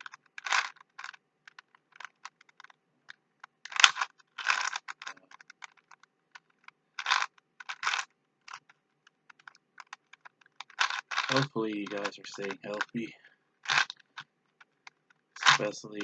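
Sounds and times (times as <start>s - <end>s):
plastic puzzle cube clicking: 0.0s - 13.0s, 13.6s - 16.0s.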